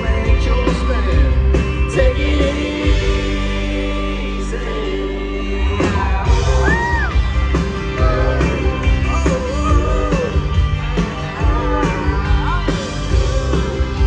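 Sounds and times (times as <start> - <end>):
man singing: 0.0 - 7.2, 7.8 - 14.0
live country band playing: 0.0 - 14.0.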